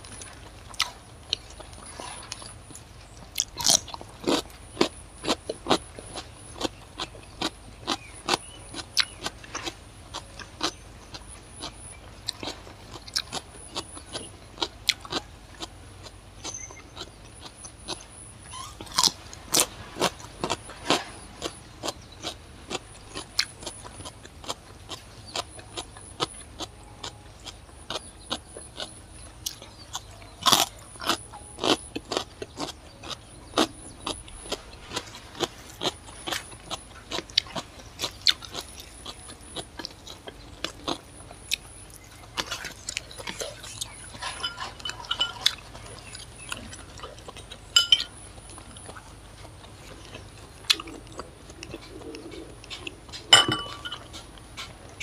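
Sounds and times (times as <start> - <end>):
crunching and chewing cucumber: 0.0 - 55.0.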